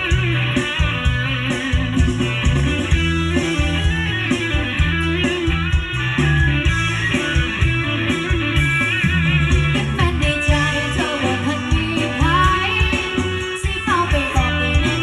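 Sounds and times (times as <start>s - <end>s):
plucked electric guitar: 0.0s - 15.0s
song over loudspeakers: 0.0s - 15.0s
steady bass beat: 0.0s - 15.0s.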